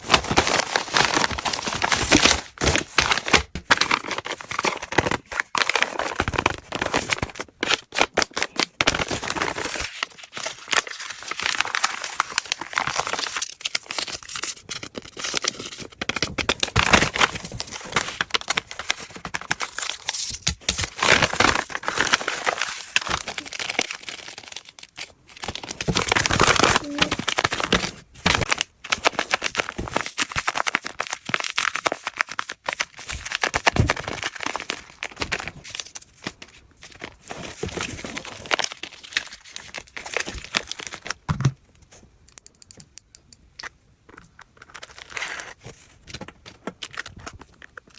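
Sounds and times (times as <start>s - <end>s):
paper crinkling and rustling: 0.0s - 41.6s, 44.6s - 47.9s.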